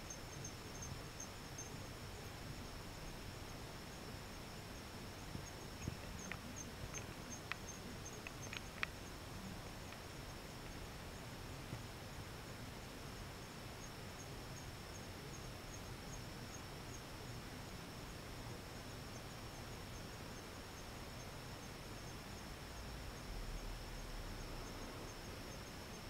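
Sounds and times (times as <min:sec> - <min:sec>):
constant hiss: 0:00.0 - 0:26.0
insects chirping: 0:00.0 - 0:26.0.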